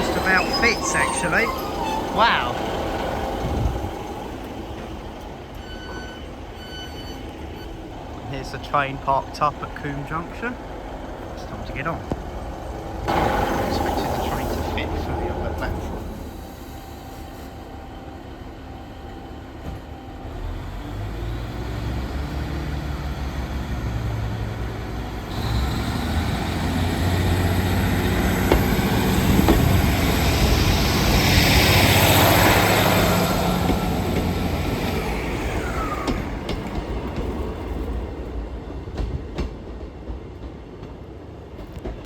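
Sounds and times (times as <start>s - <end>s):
diesel train engine: 0.0s - 42.0s
train running noise: 0.0s - 42.0s.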